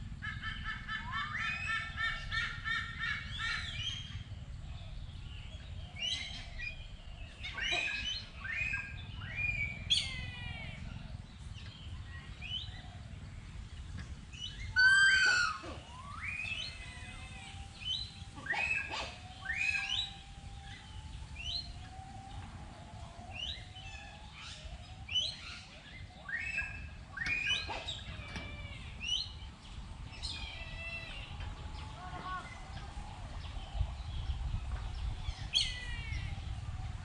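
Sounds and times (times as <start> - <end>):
birds chirping: 0.0 - 37.0
low steady rumble: 0.0 - 37.0.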